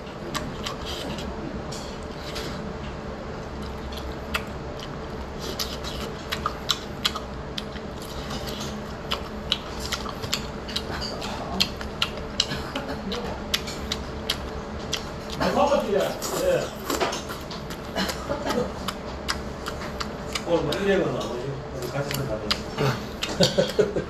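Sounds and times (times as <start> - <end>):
chewing fried pork: 0.0 - 24.0
steady low hum: 0.0 - 24.0.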